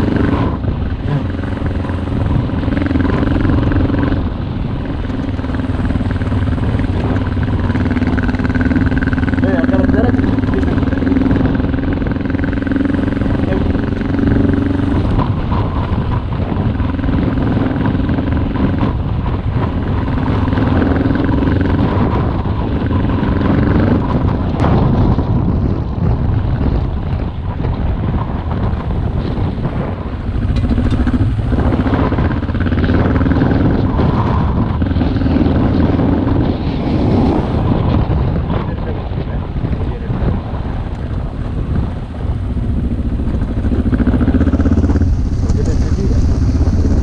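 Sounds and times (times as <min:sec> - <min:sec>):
motorcycle engine revving: 0:00.0 - 0:47.0
wind rumble on microphone: 0:00.0 - 0:47.0.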